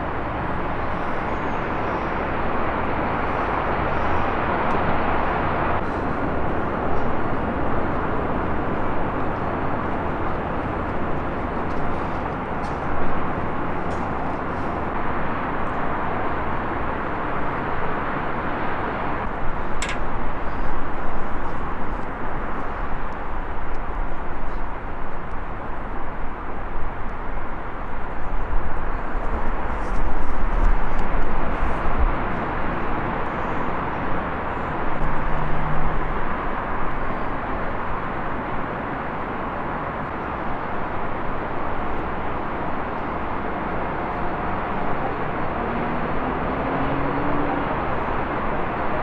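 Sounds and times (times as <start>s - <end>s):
rushing outdoor noise: 0.0s - 49.0s.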